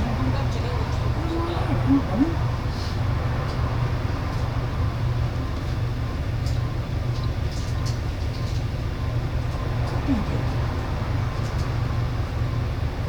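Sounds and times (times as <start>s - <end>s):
bus engine and road drone: 0.0s - 13.0s.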